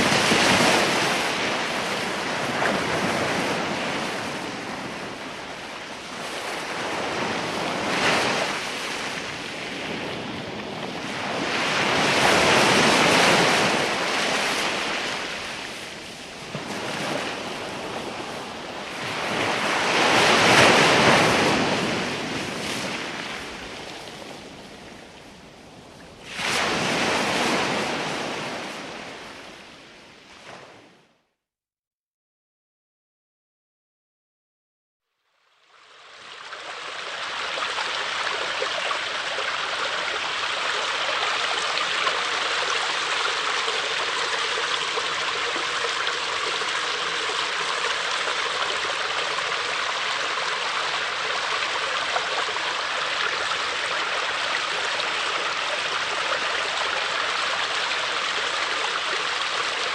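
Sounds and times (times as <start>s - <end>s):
waves breaking: 0.0s - 31.0s, 36.0s - 59.9s.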